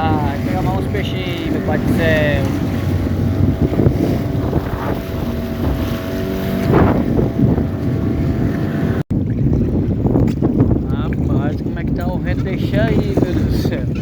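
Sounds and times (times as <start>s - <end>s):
water sloshing against boat: 0.0s - 14.0s
wind buffeting microphone: 0.0s - 14.0s.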